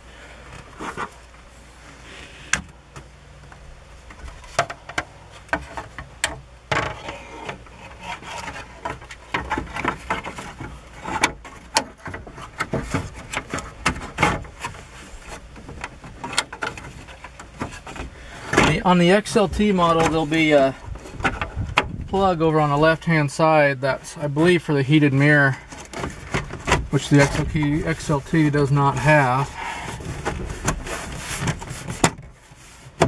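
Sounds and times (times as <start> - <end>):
plastic rubbing on plastic: 0.7 - 2.0, 4.1 - 23.2, 24.0 - 33.0.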